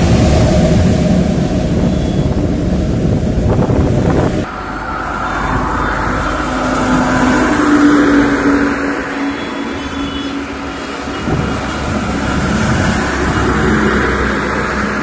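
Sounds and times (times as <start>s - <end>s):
diesel truck passing: 0.0s - 15.0s
tyres hissing through water: 0.0s - 15.0s
wet-road traffic noise: 0.0s - 15.0s.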